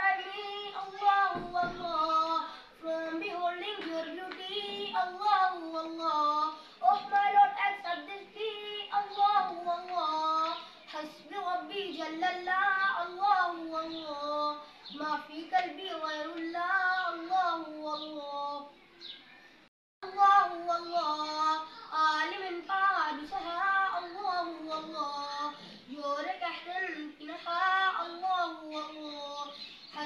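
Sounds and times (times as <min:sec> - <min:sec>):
boy singing: 0:00.0 - 0:18.8, 0:20.0 - 0:30.0.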